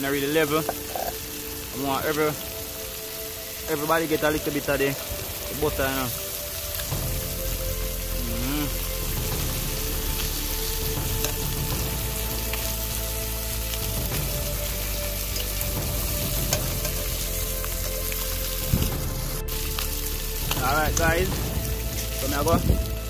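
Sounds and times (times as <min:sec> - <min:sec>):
fish sizzling in butter: 0:00.0 - 0:23.0.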